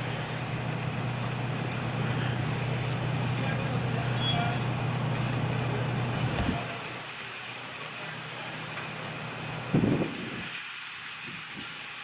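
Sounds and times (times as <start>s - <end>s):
fire truck engine humming: 0.0s - 9.7s
outdoor noise hiss: 0.0s - 12.0s.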